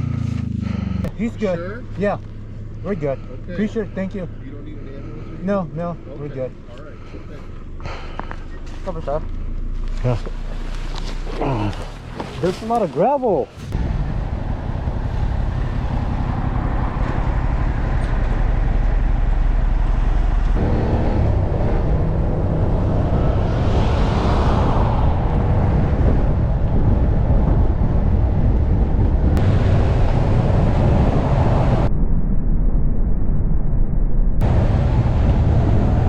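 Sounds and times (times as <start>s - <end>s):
motorcycle engine rumble: 0.0s - 12.6s, 13.5s - 32.0s
road and wind noise: 0.0s - 36.0s.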